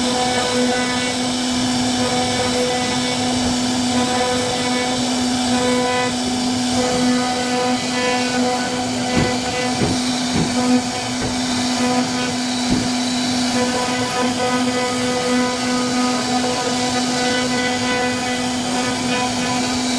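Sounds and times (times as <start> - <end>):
rough wood cutting noise: 0.0 - 19.9
router spindle motor whine: 0.0 - 19.9.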